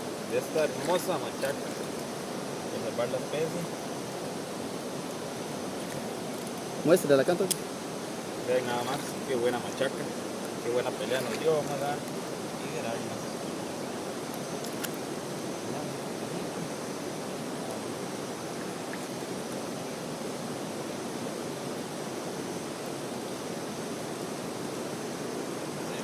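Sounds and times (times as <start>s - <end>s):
flowing water: 0.0s - 26.0s.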